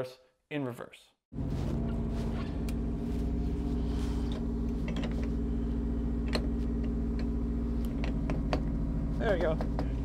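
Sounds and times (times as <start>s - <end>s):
car engine idling: 1.4s - 10.0s.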